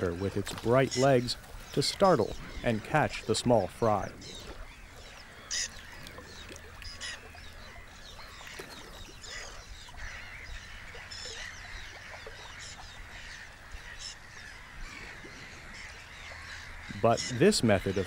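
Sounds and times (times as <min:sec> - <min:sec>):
chorus of birds calling: 0:00.0 - 0:18.0.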